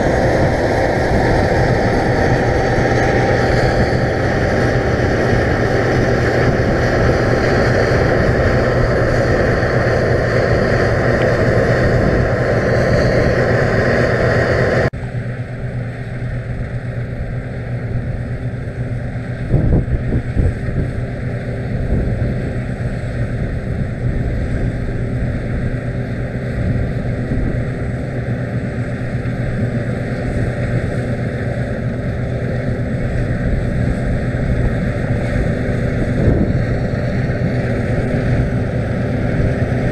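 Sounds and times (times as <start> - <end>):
combine harvester hum: 0.0 - 39.9
wind rumbling on microphone: 0.0 - 39.9.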